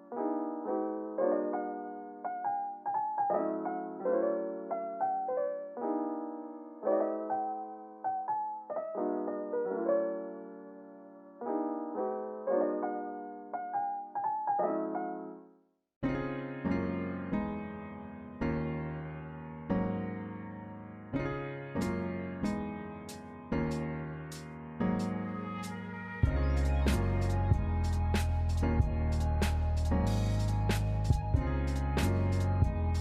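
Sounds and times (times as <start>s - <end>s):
gentle piano music: 0.0s - 33.0s.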